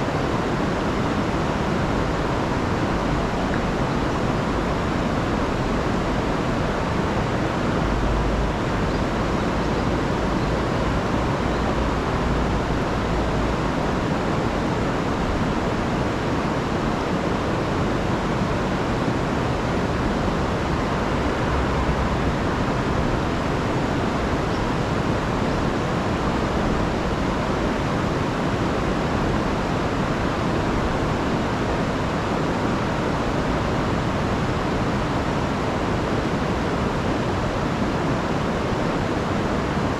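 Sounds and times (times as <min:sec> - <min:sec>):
river rushing over falls: 0:00.0 - 0:39.9.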